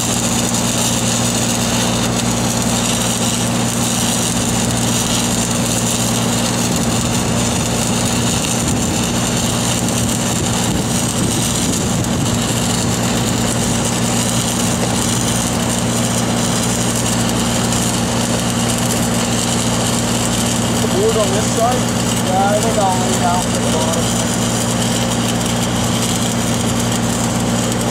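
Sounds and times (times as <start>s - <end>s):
welding machine engine hum: 0.0s - 27.9s.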